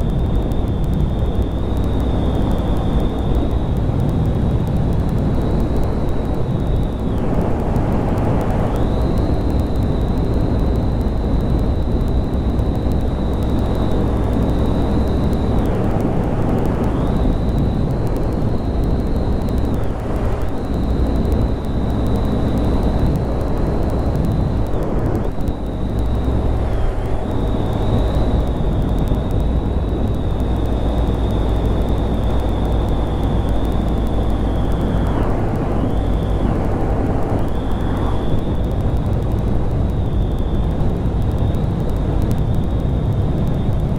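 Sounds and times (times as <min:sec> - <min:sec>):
steady high whine: 0:00.0 - 0:43.9
wind rumble on microphone: 0:00.0 - 0:43.9.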